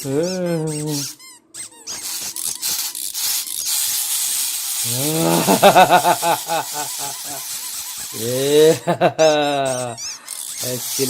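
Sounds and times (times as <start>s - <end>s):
toy hiss: 0.0s - 11.0s
warbling electronic animal call: 0.0s - 11.0s.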